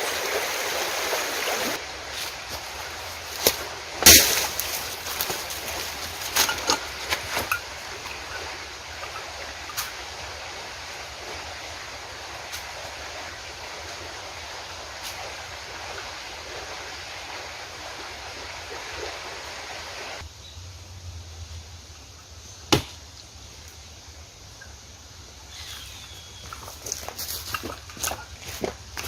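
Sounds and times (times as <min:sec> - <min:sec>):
rushing outdoor noise: 0:00.0 - 0:29.0.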